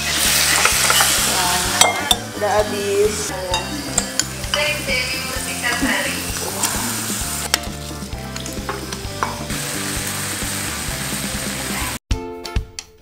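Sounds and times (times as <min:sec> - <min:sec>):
meat sizzling on grill pan: 0:00.0 - 0:12.0.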